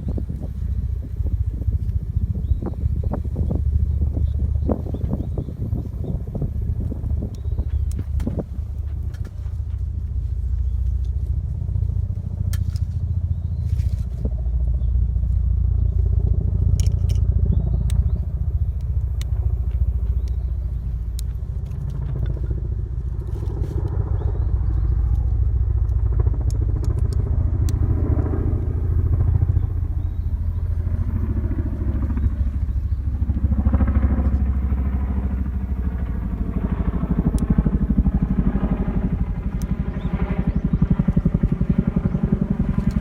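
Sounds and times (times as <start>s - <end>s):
low rumble: 0.0s - 43.0s.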